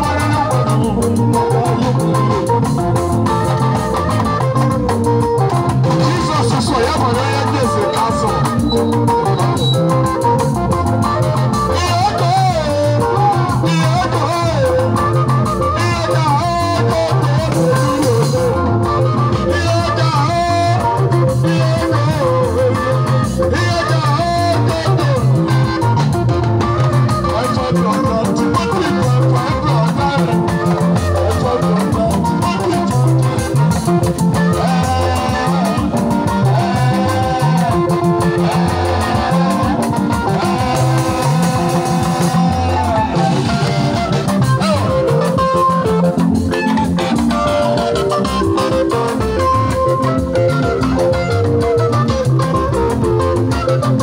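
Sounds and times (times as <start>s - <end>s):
bass guitar: 0.0s - 54.0s
drum kit beat: 0.0s - 54.0s
electric guitars: 0.0s - 54.0s.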